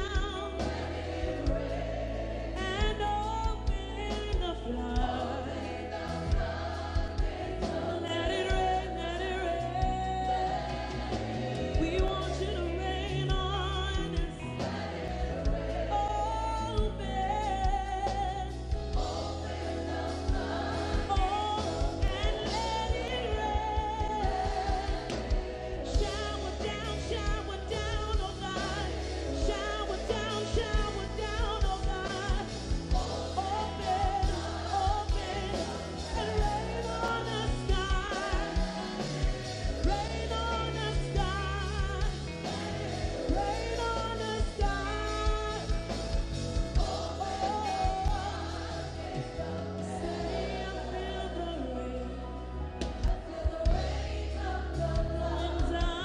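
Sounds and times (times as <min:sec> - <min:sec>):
choir singing: 0:00.0 - 0:56.0
keyboard and band: 0:00.0 - 0:56.0
woman singing lead vocals: 0:00.0 - 0:56.0.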